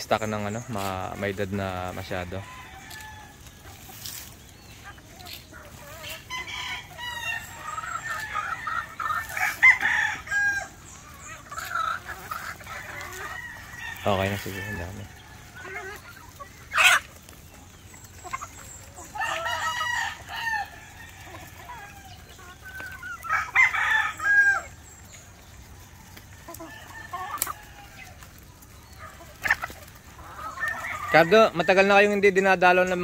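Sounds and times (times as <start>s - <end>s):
hens clucking: 0.0s - 33.0s
roosters crowing: 0.0s - 33.0s.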